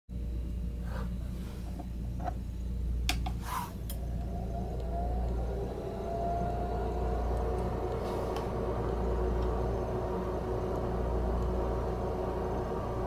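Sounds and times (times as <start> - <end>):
cooling fan spinning up: 0.1 - 13.0
steady low hum: 0.1 - 13.0.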